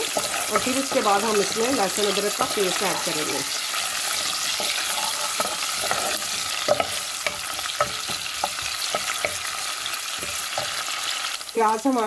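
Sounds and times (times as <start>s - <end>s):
wooden spoon scraping a pan: 0.0s - 11.4s
onions sizzling in oil: 0.0s - 12.0s.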